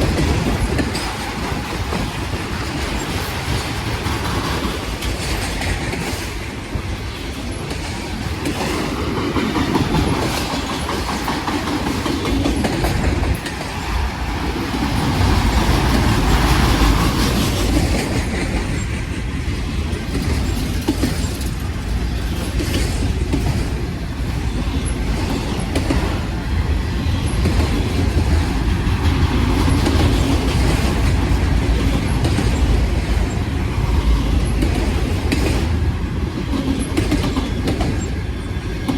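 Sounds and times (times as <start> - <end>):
freight train rumbling past: 0.0 - 38.9
train wheels clacking on rail joints: 0.0 - 38.9.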